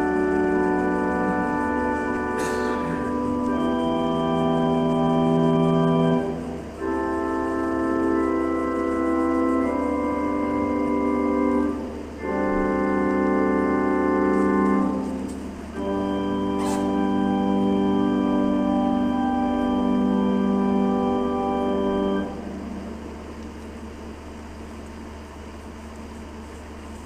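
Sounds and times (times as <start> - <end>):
organ chords: 0.0 - 24.9.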